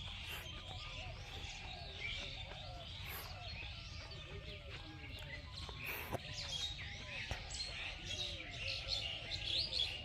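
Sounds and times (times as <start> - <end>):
birds chirping and calling: 0.0 - 10.0.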